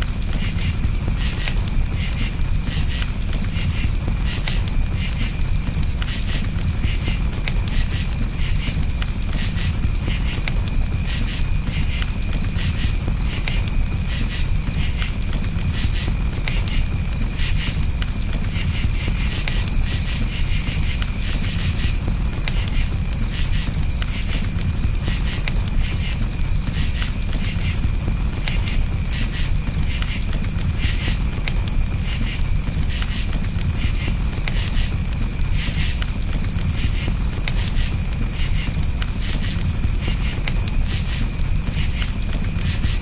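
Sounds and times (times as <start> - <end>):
crickets chirping: 0.0 - 43.0
wood campfire crackling: 0.0 - 43.0.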